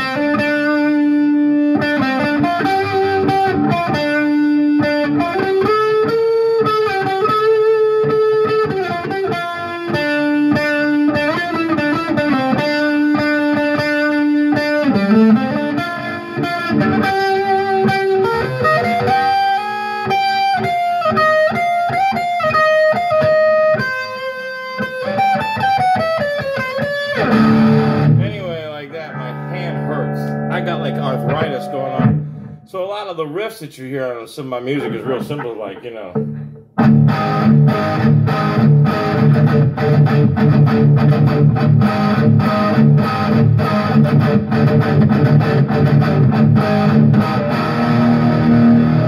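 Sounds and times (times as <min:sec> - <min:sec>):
electric guitar riff: 0:00.0 - 0:32.8, 0:34.7 - 0:49.0.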